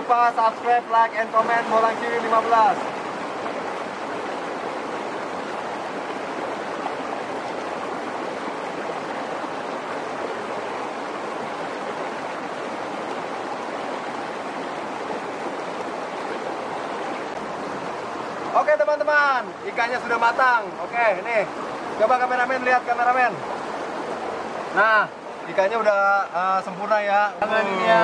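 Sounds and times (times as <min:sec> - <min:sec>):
stream flowing over stones: 0:00.0 - 0:28.0.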